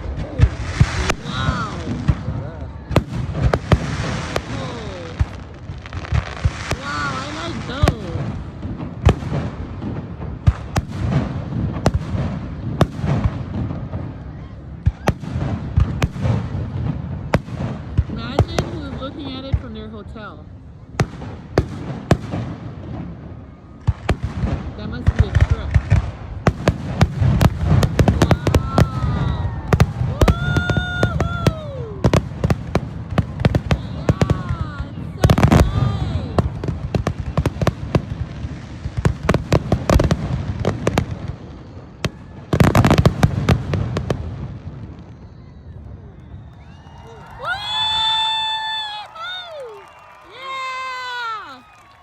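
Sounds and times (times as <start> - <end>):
low rumble of explosions: 0.0 - 48.6
fireworks booming: 0.0 - 51.0.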